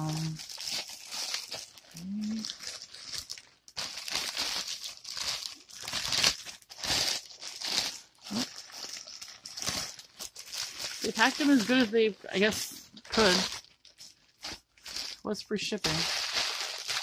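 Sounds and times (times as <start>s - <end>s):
plastic bag tearing and crinkling: 0.0s - 17.0s.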